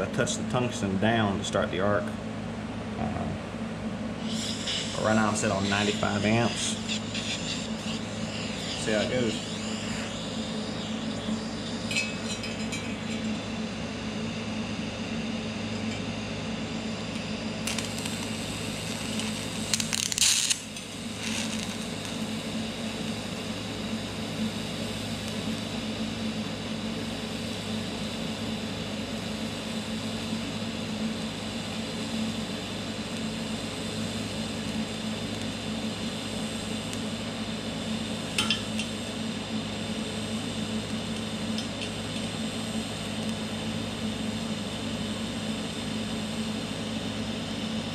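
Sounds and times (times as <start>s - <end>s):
welder hum: 0.0s - 47.9s
arc crackle: 4.2s - 25.8s, 29.0s - 47.9s
welding arc: 4.2s - 25.9s, 26.9s - 47.9s.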